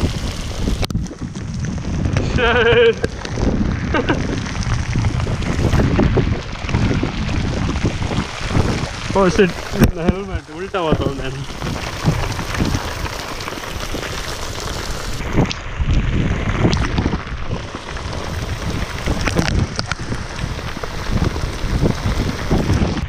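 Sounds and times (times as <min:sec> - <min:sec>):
low rumble: 0:00.0 - 0:23.0
rain and wind hiss on camera: 0:00.0 - 0:23.0.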